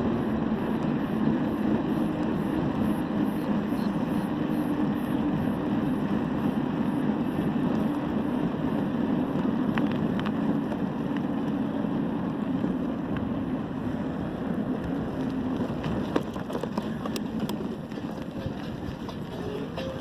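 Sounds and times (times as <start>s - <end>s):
road noise: 0.0s - 20.0s
wind rush on microphone: 0.0s - 20.0s.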